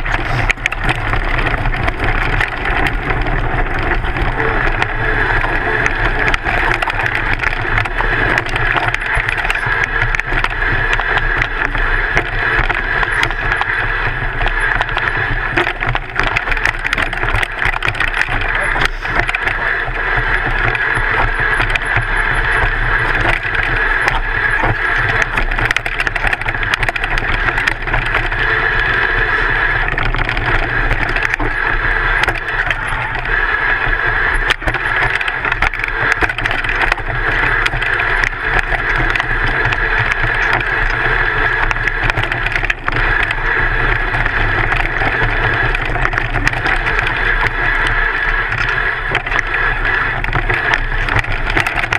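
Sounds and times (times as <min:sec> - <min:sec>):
bike rattling over stones: 0:00.0 - 0:51.9.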